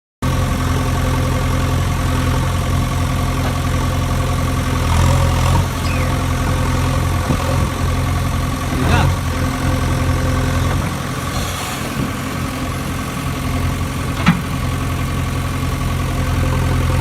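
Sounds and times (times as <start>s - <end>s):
engine idling: 0.2s - 17.0s.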